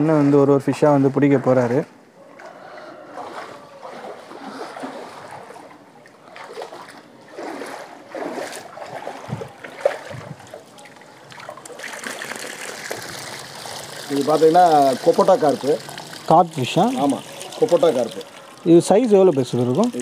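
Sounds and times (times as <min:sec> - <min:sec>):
water splashing and swirling: 0:00.0 - 0:20.0.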